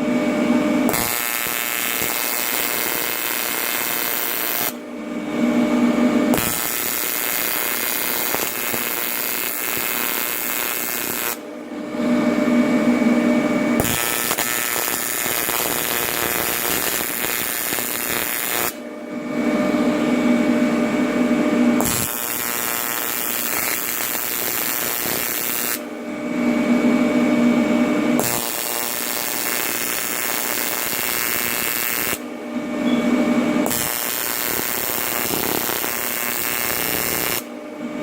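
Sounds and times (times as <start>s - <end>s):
welding arc buzzing: 0.8s - 4.8s, 5.6s - 11.5s, 12.7s - 25.9s, 28.0s - 37.6s.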